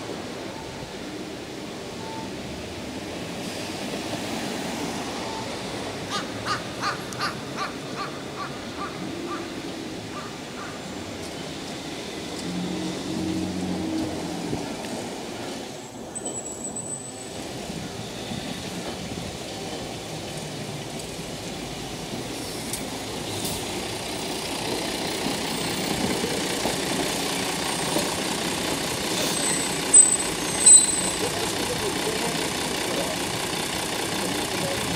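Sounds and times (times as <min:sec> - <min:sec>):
diesel bus engine: 0:00.0 - 0:34.9
street traffic noise: 0:00.0 - 0:34.9
streetcar pulling away: 0:00.0 - 0:34.9.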